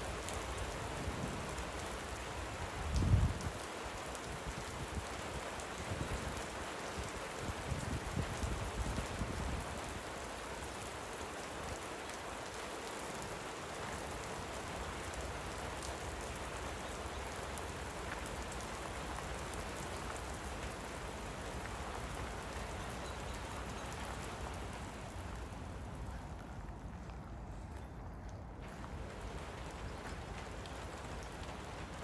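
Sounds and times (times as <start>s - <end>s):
rain hissing: 0.0s - 32.0s
raindrops ticking: 0.0s - 32.0s.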